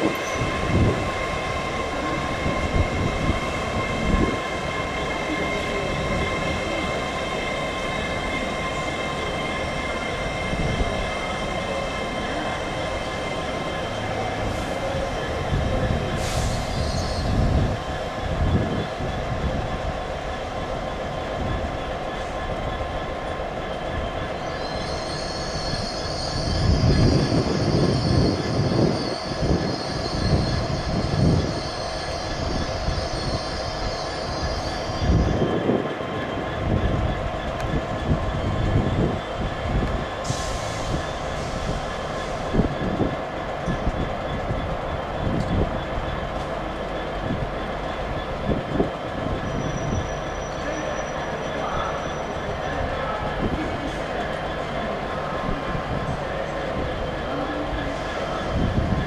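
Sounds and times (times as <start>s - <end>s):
train rumbling on rails: 0.0s - 59.0s
high wheel squeal: 5.5s - 19.6s, 23.6s - 59.0s.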